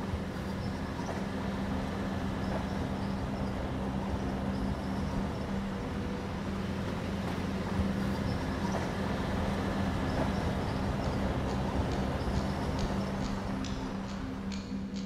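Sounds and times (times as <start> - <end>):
constant low hum: 0.0 - 15.0
truck engine and tyre drone: 0.0 - 15.0.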